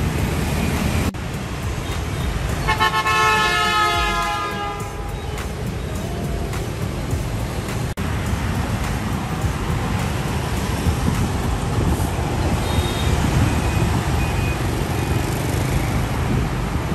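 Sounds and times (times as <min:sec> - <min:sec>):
diesel truck passing: 0:00.0 - 0:16.9
motorbike engines passing: 0:00.0 - 0:16.9.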